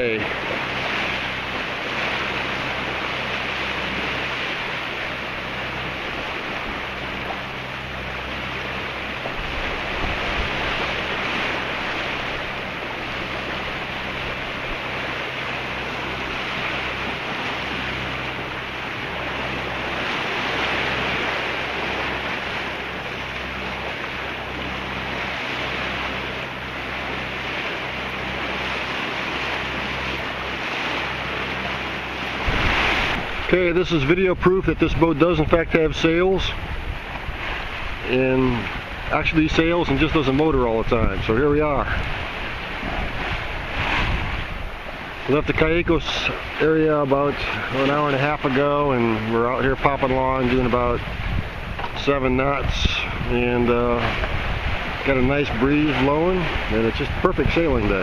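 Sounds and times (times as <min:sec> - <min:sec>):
low steady hum: 0:00.0 - 0:58.0
water rushing along hull: 0:00.0 - 0:58.0
wind buffeting microphone: 0:00.0 - 0:58.0.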